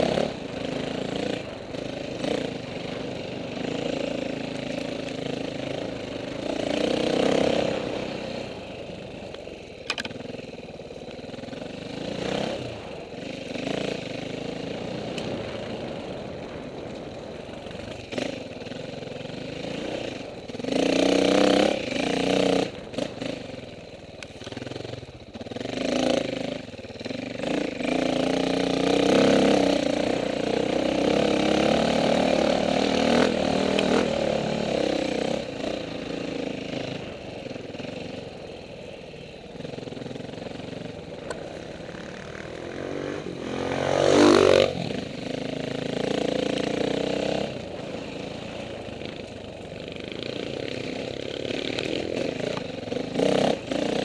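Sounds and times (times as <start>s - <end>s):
dirt bike engine revving: 0.0s - 10.5s, 11.3s - 23.6s, 24.3s - 38.9s, 39.5s - 54.0s.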